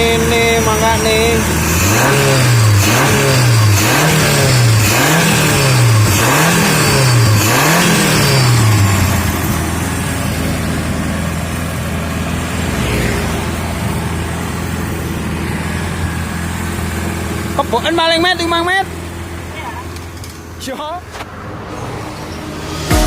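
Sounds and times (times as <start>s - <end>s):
engine revving and idling: 0.0s - 20.6s, 21.4s - 23.0s.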